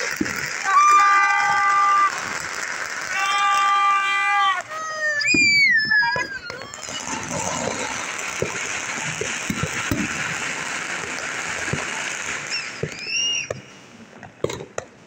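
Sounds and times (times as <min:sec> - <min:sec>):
fireworks crackling: 0:00.0 - 0:15.0
fireworks pops and bangs: 0:00.0 - 0:15.0.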